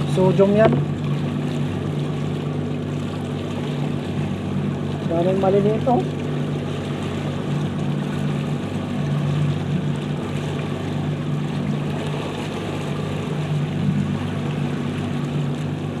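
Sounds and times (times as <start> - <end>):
motorboat engine running: 0.0 - 16.0
rush of wind and water: 0.0 - 16.0.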